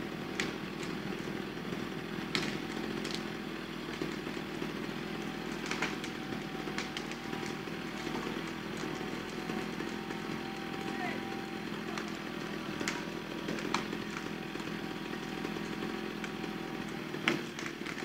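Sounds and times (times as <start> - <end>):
machine engine running: 0.0 - 18.0
sharp knocks and cracks: 0.3 - 11.0, 11.8 - 18.0.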